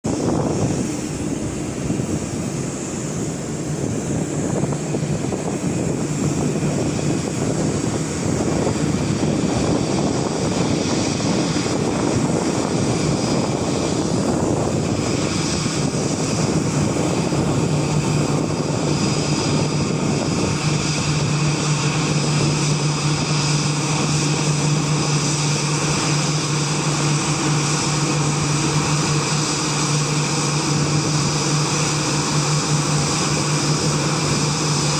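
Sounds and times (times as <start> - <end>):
jet engines running: 0.0 - 34.9.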